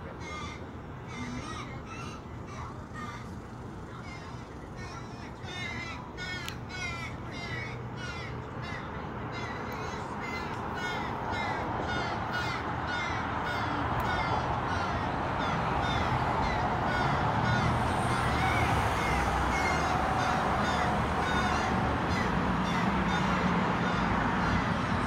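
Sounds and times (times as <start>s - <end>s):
steady background noise: 0.0s - 25.0s
crows cawing: 0.1s - 25.0s.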